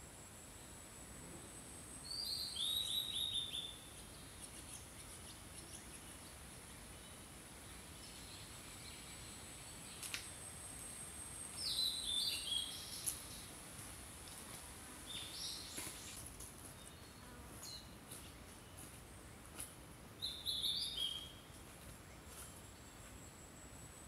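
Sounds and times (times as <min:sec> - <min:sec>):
soft background hiss: 0:00.0 - 0:24.0.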